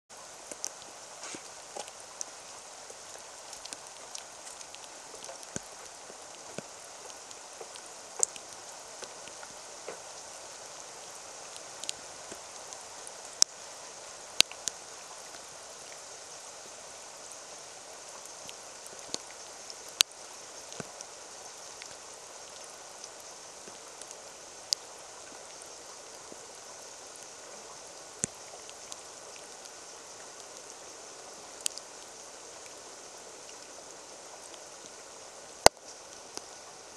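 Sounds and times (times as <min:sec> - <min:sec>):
rain falling into puddle: 0:00.2 - 0:36.9.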